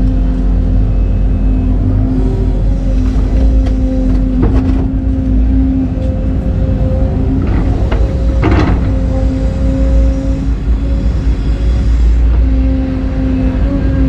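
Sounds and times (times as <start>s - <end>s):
excavator diesel engine whining: 0.0s - 14.0s.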